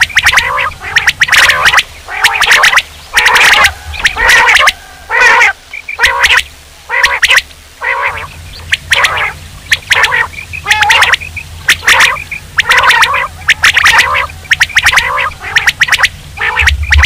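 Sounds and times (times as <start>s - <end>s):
low hum: 0.0s - 17.0s
quail calls: 0.0s - 17.0s.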